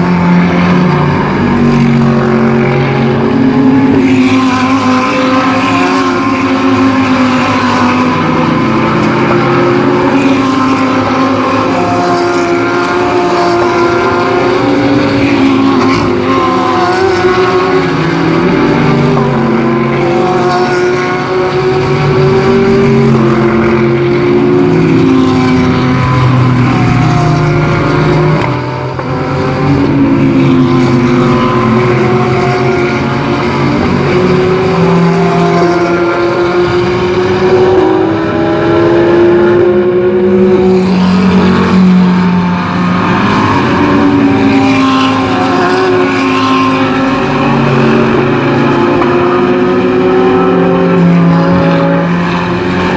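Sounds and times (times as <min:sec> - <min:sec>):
race cars passing at full throttle: 0:00.0 - 0:52.9.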